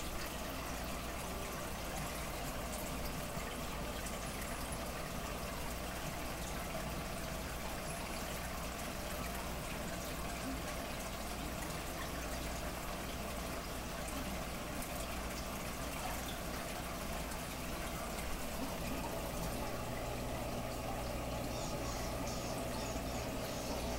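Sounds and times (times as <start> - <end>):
aquarium water bubbling: 0.0 - 23.9
low steady hum: 0.0 - 23.9.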